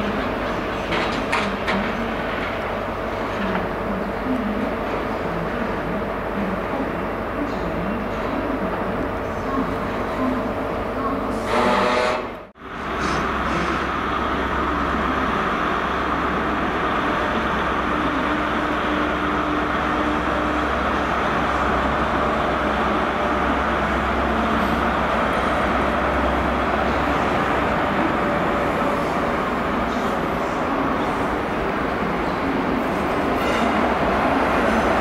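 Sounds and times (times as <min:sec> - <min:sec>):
diesel train engine drone: 0:00.0 - 0:35.0
train wheel and rail noise: 0:00.0 - 0:35.0.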